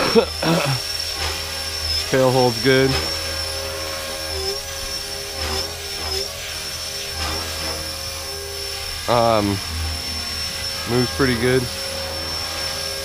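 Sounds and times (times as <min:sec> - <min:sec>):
rc helicopter motor whine: 0:00.0 - 0:13.0
rotor hum: 0:00.0 - 0:13.0.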